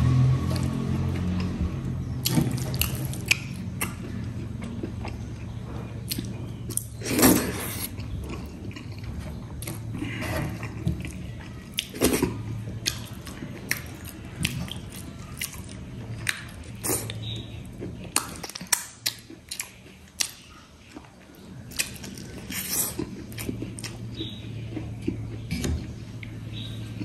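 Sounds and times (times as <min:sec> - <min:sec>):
person chewing food: 0:02.2 - 0:27.0.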